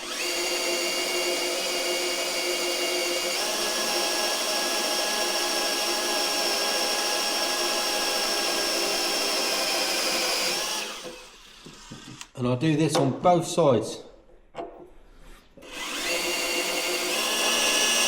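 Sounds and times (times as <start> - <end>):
electric drill drilling metal: 0.0 - 12.4, 15.6 - 18.0.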